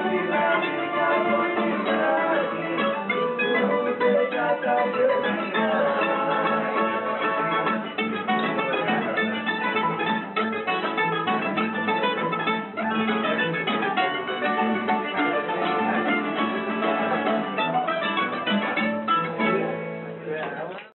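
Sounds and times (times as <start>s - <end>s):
plucked string instruments playing: 0.0s - 20.8s.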